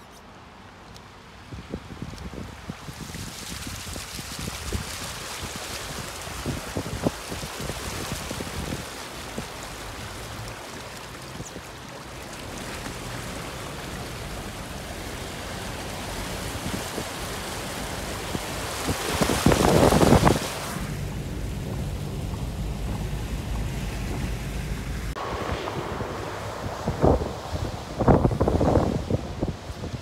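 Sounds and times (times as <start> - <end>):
rushing floodwater: 0.5 - 30.0.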